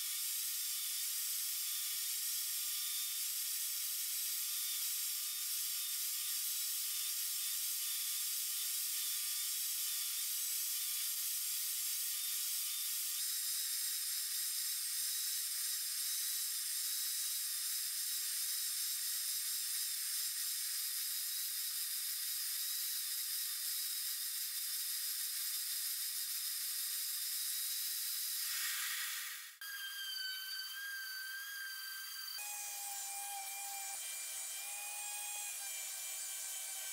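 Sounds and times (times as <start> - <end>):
table saw hissing through wood: 0.0 - 36.9.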